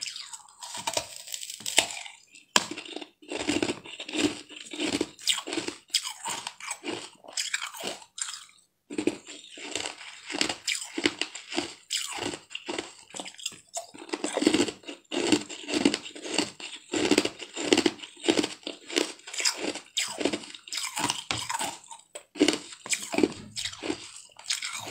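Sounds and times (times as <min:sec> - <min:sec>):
chewing crunchy ice: 0:00.0 - 0:24.9.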